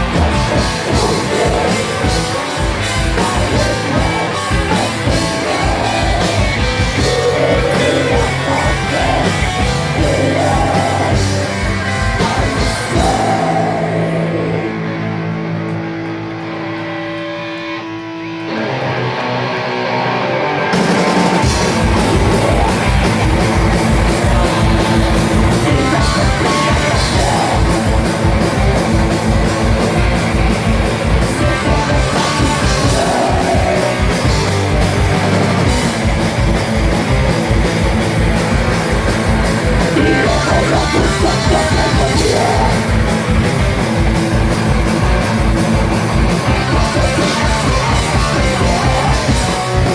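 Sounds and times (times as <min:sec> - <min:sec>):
electric guitar: 0:00.0 - 0:49.9
live band playing rock: 0:00.0 - 0:49.9.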